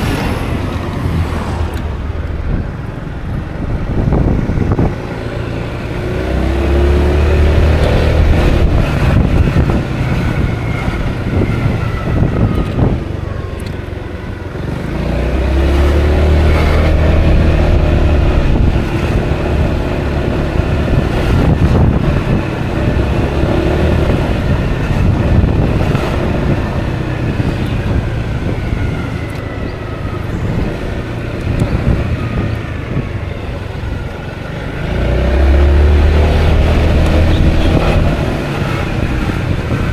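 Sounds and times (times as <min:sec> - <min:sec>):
scooter engine accelerating: 0:00.0 - 0:39.9
wind rushing over microphone: 0:00.0 - 0:39.9.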